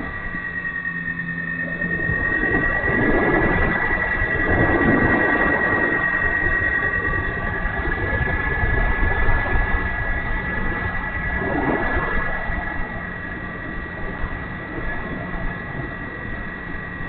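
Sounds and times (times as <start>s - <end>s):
electric motor and propeller whining: 0.0s - 17.0s
low rumble: 0.0s - 17.0s.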